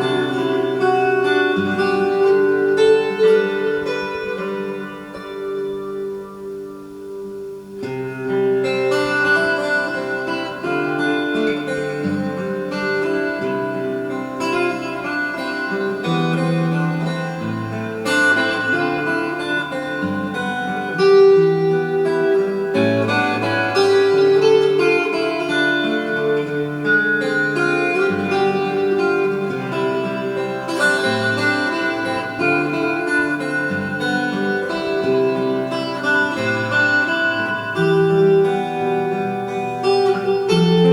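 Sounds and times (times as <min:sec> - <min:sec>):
calm plucked string music: 0:00.0 - 0:40.9.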